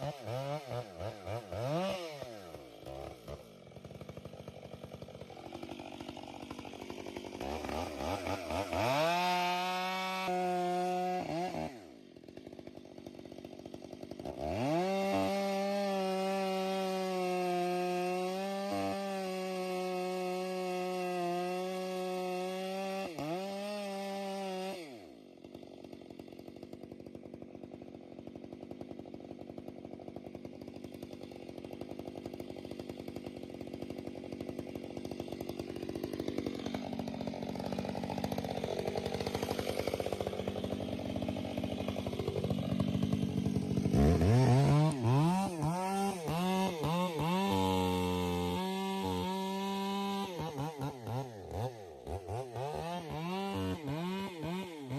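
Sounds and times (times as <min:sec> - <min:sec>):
chainsaw engine revving: 0:00.0 - 0:54.9.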